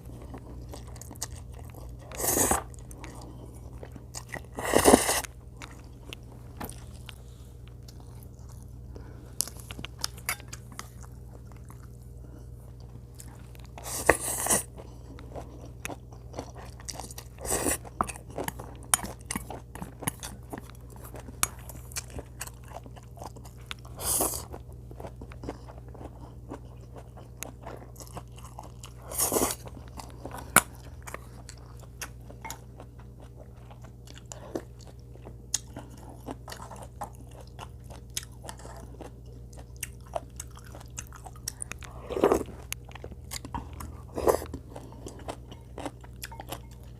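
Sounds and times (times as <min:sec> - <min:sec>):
chewing and biting food: 0:00.0 - 0:46.9
steady low hum: 0:00.0 - 0:46.9.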